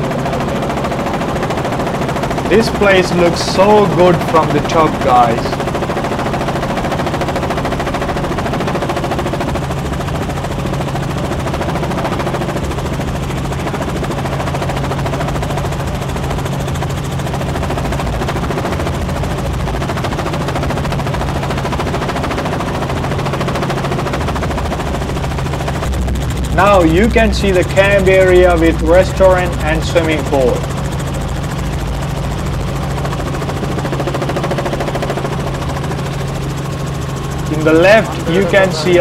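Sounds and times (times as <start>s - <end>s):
helicopter rotor chop: 0.0s - 39.0s.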